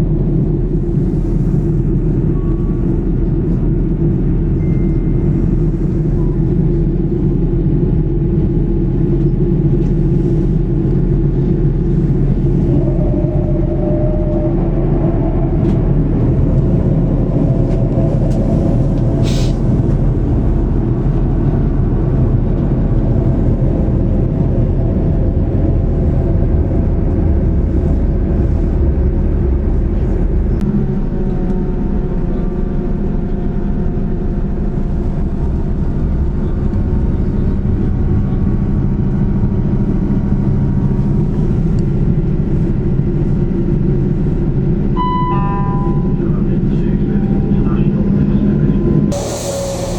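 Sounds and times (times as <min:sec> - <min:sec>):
diesel train engine rumbling: 0:00.0 - 0:49.9.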